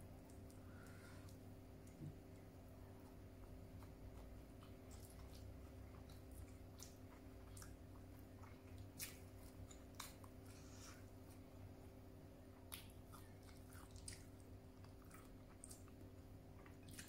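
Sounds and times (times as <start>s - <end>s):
faint steady hum: 0.0s - 17.0s
faint chewing: 0.1s - 17.0s.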